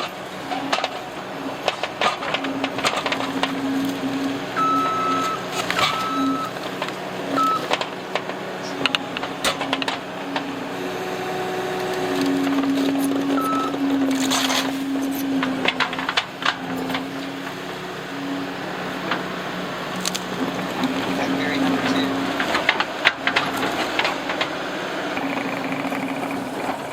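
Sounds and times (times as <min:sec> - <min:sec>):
skid steer engine droning: 0:00.0 - 0:26.9.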